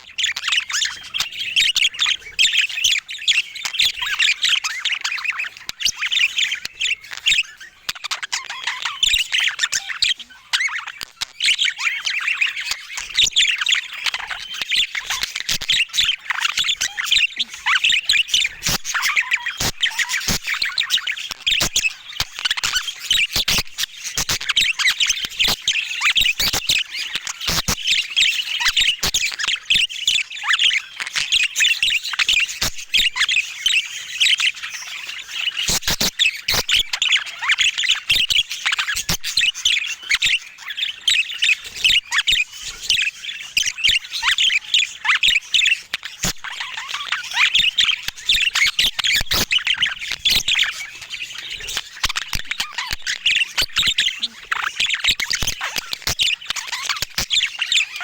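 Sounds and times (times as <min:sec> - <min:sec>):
budgerigar chatter: 0:00.0 - 0:58.0.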